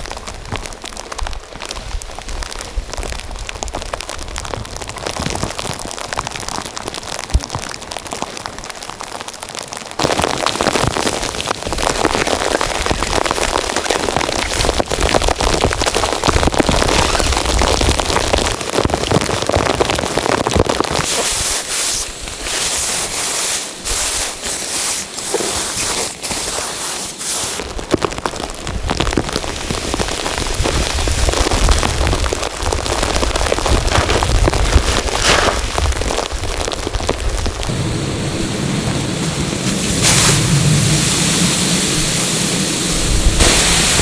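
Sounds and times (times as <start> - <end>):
rain pattering: 0.0 - 44.0.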